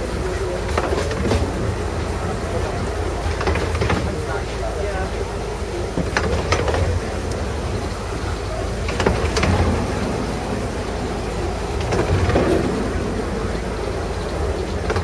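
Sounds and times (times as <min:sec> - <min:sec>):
miniature train rumbling: 0:00.0 - 0:15.0
sharp clicks from wheels: 0:00.2 - 0:15.0.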